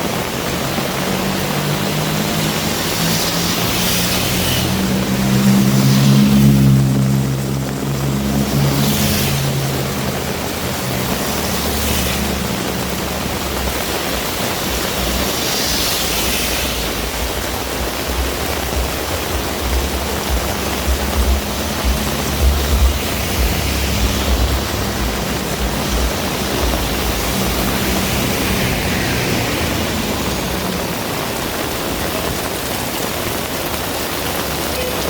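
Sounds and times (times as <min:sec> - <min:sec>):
heavy rain: 0:00.0 - 0:35.0
passing vehicle engine hum: 0:00.0 - 0:35.0.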